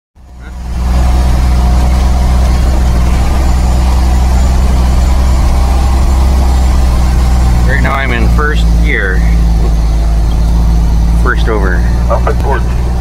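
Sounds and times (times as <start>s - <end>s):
truck diesel engine drone: 0.2s - 13.0s.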